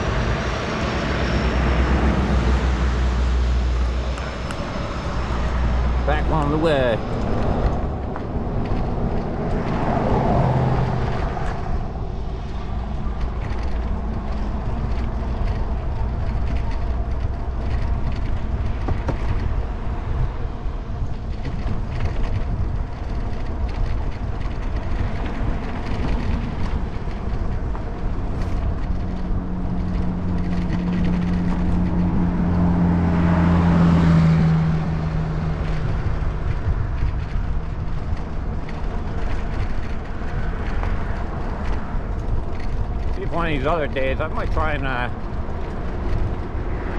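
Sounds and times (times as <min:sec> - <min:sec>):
motor vehicle passing: 0:00.0 - 0:46.9
wind and road rumble: 0:00.0 - 0:46.9.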